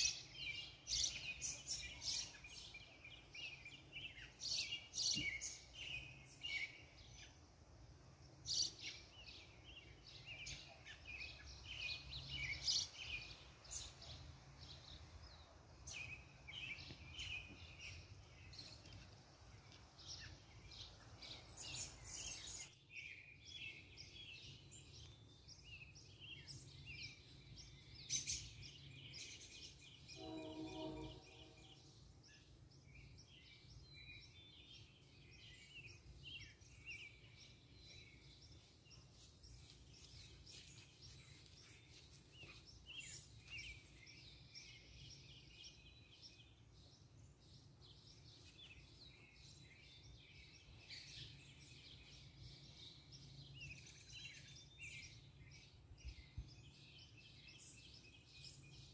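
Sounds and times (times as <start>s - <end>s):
birds chirping and singing: 0.0s - 58.9s.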